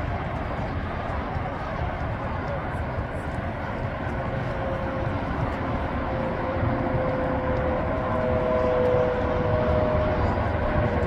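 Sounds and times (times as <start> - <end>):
engine drone: 0.0 - 11.0
low rumble: 0.0 - 11.0.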